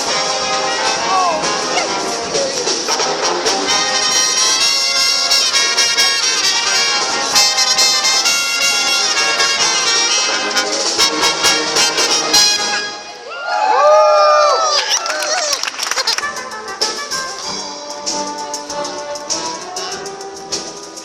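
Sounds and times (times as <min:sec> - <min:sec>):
live rock band music: 0:00.0 - 0:13.1, 0:15.6 - 0:21.0.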